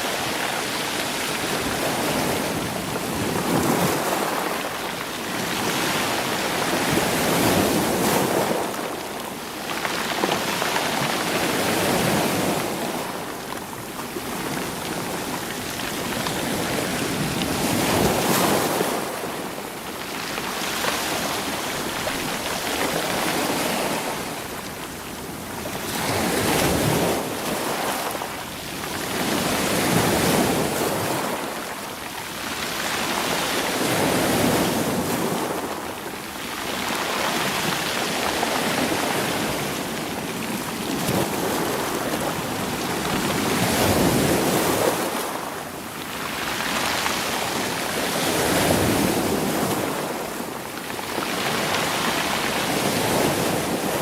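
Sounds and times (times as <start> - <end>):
sea waves washing over stones: 0.0 - 54.0.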